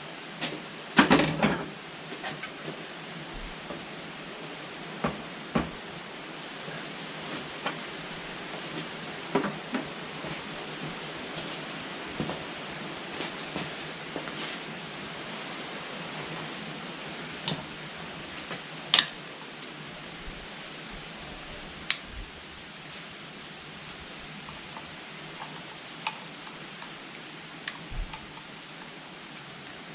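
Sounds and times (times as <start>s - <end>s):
steady background hiss: 0.0s - 29.9s.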